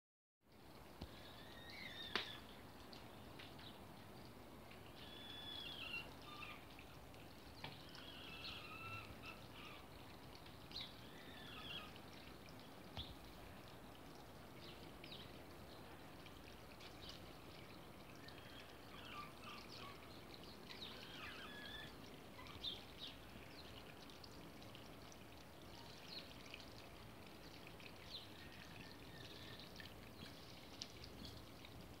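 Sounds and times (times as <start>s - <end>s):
water trickling: 0.4s - 32.0s.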